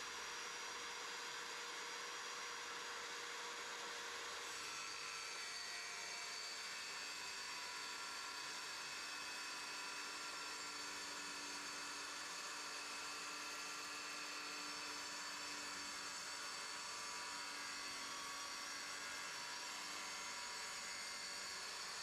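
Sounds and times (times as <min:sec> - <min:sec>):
tile saw motor whining: 0:00.0 - 0:22.0.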